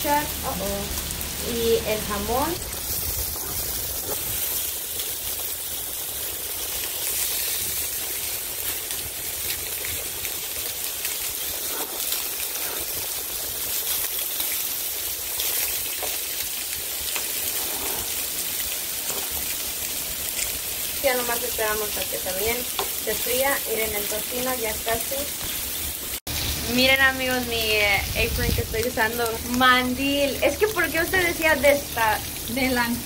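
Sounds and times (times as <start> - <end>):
bacon sizzling on a griddle: 0.0 - 33.0.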